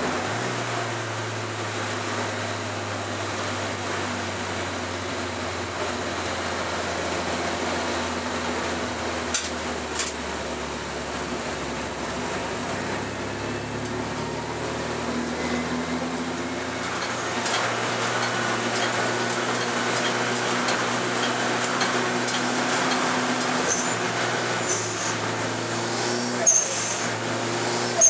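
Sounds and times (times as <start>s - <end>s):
race car engine running: 0.0s - 28.0s
road and wind noise: 0.0s - 28.0s.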